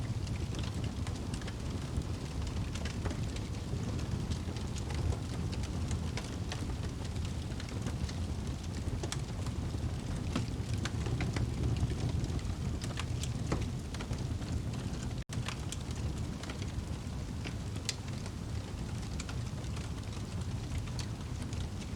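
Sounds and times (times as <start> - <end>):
fire crackles and pops: 0.0 - 21.9
fire flames rumbling: 0.0 - 21.9.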